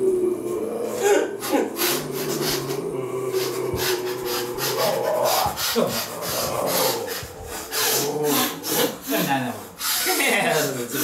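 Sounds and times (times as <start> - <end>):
amplified rasping breath sounds: 0.0 - 10.9
sliding vocal tones: 0.0 - 11.0.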